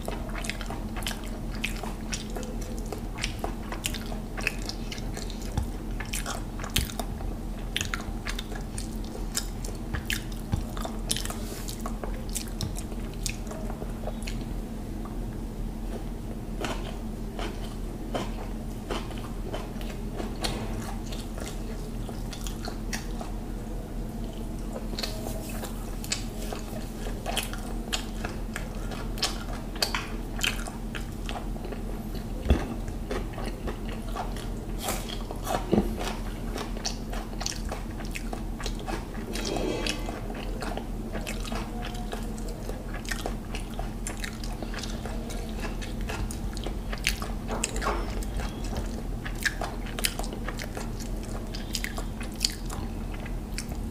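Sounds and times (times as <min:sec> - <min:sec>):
food crunching: 0:00.0 - 0:15.2, 0:15.9 - 0:53.9
chewing with wet mouth sounds: 0:00.0 - 0:53.9
low steady hum: 0:00.0 - 0:53.9.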